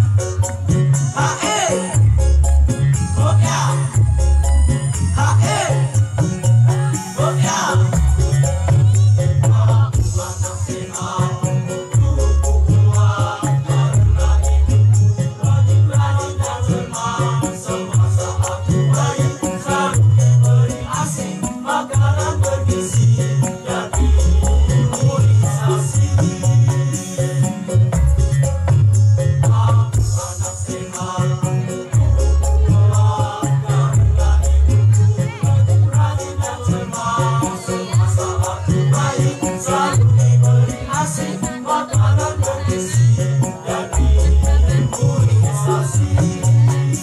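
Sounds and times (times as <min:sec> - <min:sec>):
backing music with bass and beat: 0:00.0 - 0:47.0
shaker-like percussion: 0:00.0 - 0:47.0
boys singing together: 0:00.1 - 0:02.2, 0:02.8 - 0:27.7, 0:29.4 - 0:47.0.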